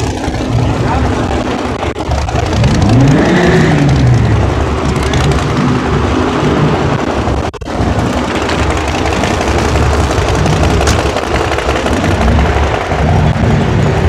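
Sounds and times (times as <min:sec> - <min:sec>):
car engine revving: 0:00.0 - 0:14.0
steady low rumble: 0:00.0 - 0:14.0.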